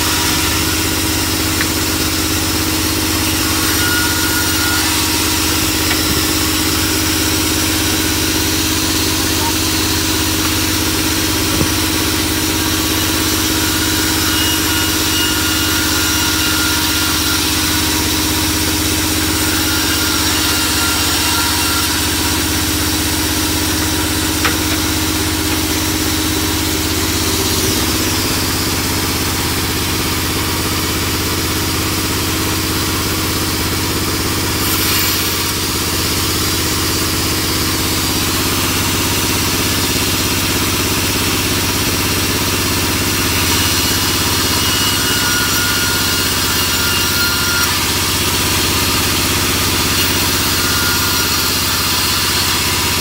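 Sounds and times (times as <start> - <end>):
band sawmill machine hum: 0.0 - 53.0.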